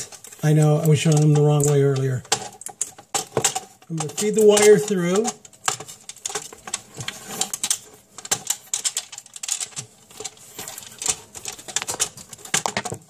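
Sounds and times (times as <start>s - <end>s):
metal cable rattling against housing: 0.0s - 13.0s.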